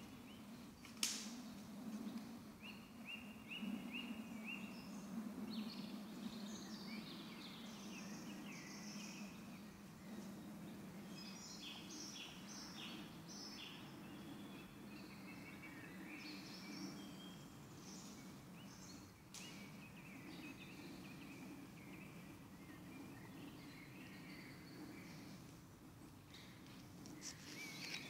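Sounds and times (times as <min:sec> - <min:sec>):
birds chirping: 0:00.0 - 0:28.0
low background noise: 0:00.0 - 0:28.0.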